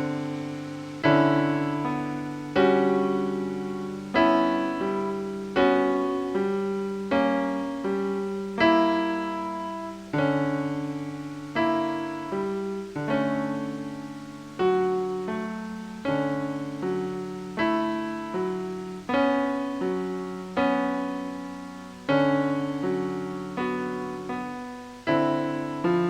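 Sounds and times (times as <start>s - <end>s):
slow ambient piano chords: 0.0s - 26.0s.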